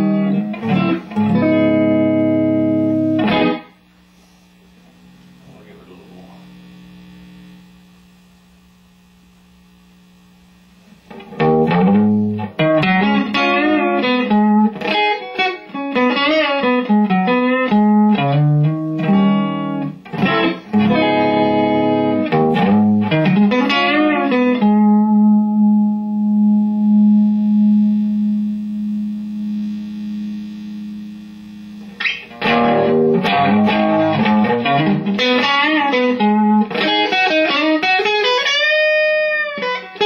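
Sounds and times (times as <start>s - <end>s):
electric guitar riff: 0.0s - 7.6s, 10.8s - 40.0s
amplifier idle hum: 0.0s - 15.9s, 16.6s - 37.1s.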